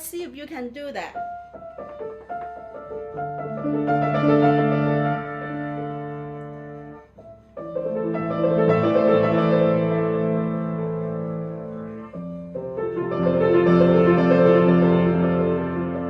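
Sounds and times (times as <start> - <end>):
gentle piano melody: 1.2 - 16.0.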